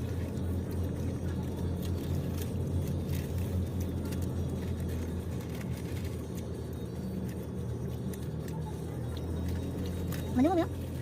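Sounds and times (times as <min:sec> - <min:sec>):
diesel engine cabin rumble: 0:00.0 - 0:11.0.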